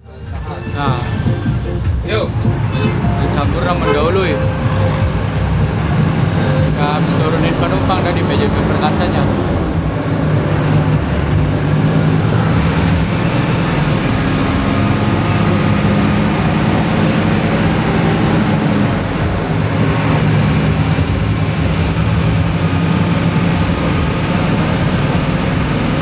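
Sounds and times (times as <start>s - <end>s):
bus engine under load: 0.0s - 26.0s
road and cabin noise: 0.0s - 26.0s.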